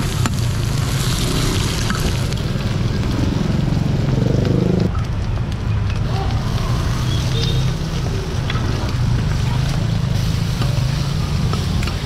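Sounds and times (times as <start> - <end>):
food sizzling on a griddle: 0.0 - 4.8, 6.0 - 12.0.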